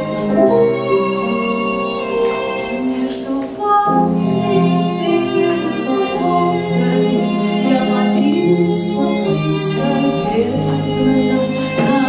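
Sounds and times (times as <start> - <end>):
instrumental accompaniment: 0.0 - 12.0
woman singing: 0.0 - 12.0.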